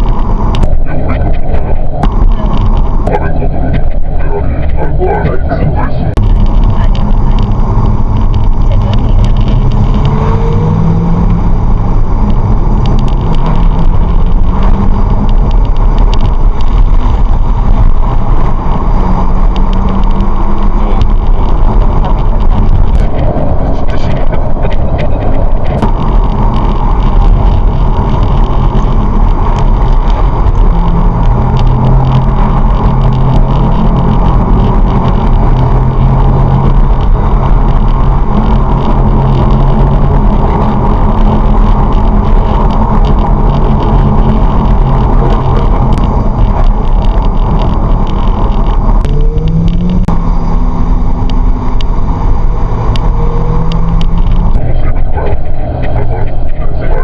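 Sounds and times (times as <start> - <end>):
car engine hum: 0.0 - 57.0
road noise: 0.0 - 57.0.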